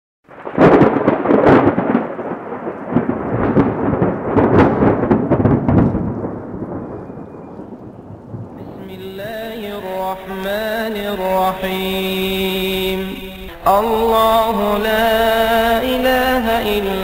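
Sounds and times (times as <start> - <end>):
thunder cracks and rumbling: 0.3 - 17.0.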